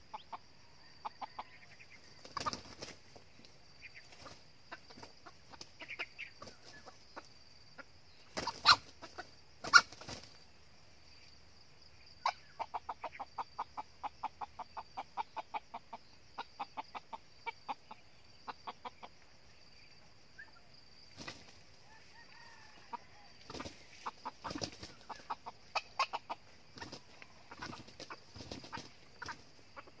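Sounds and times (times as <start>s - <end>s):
junglefowl clucking: 0.0s - 3.0s, 3.7s - 10.3s, 12.1s - 19.2s, 20.4s - 30.0s.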